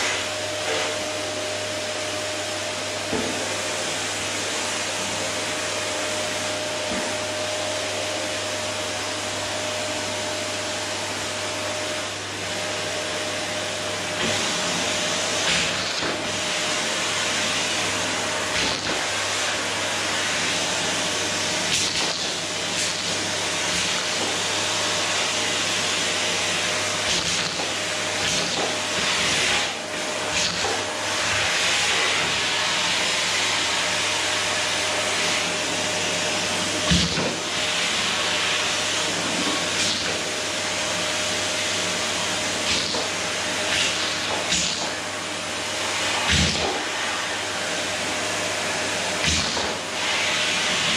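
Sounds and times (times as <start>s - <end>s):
vacuum cleaner whine and suction: 0.0s - 50.9s.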